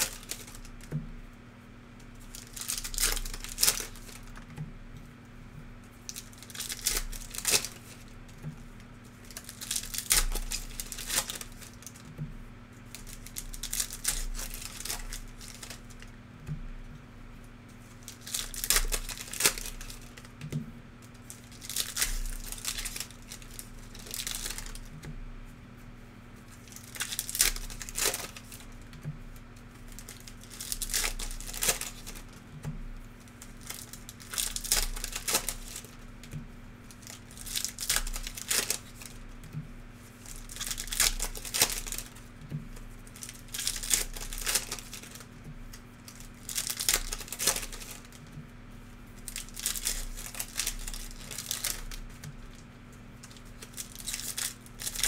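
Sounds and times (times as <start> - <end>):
wrappers crinkling and tearing: 0.0 - 1.0, 2.0 - 4.6, 6.0 - 12.1, 12.8 - 16.2, 17.8 - 25.1, 26.4 - 55.0.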